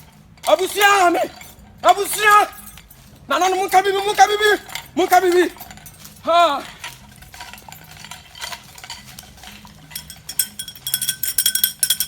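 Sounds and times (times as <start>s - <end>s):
fast ringing metal clinks: 0.0s - 12.0s
metal clinking and scraping: 0.0s - 12.0s.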